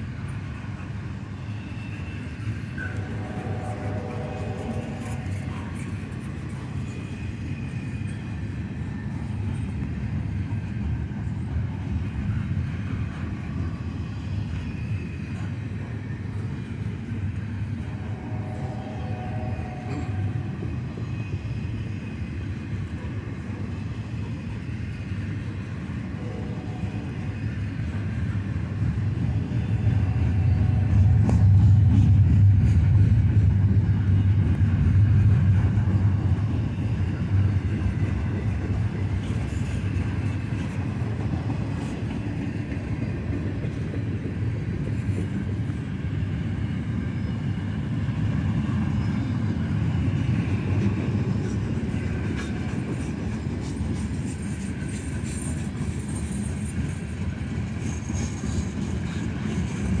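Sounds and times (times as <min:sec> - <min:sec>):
freight train cars rolling past: 0:00.0 - 1:00.0.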